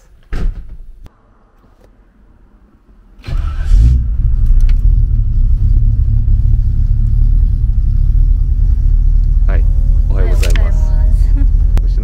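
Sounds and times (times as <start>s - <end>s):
car engine starting and idling: 1.1s - 12.0s.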